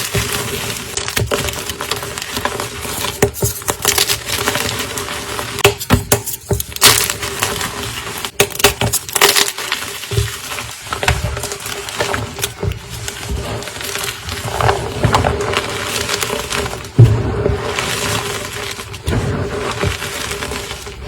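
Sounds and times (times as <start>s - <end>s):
chalk crunching: 0.0s - 21.0s.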